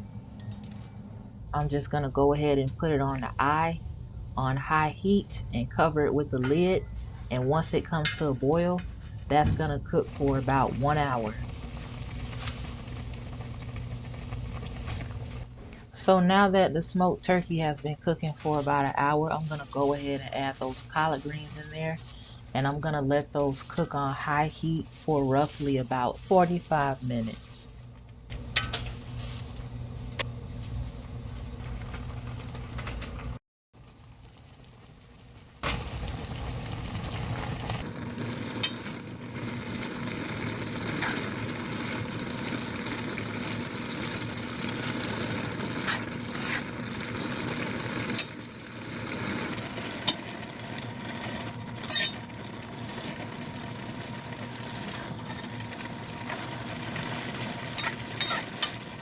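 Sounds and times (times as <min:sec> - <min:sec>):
pot bubbling and hissing: 0:03.5 - 0:59.0.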